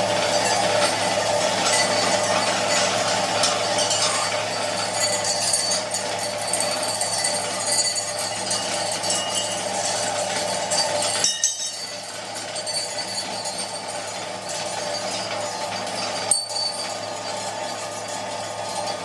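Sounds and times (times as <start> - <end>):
sieve rattling and clinking: 0.5 - 17.2.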